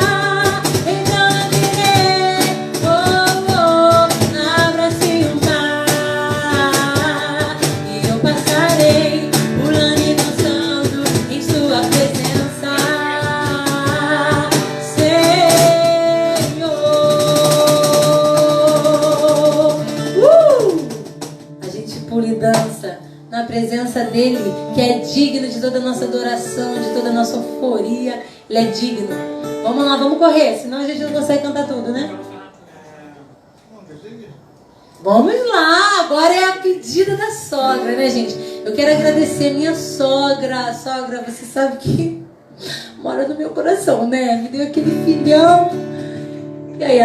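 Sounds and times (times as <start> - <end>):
guitar: 0.0 - 32.6, 34.5 - 47.0.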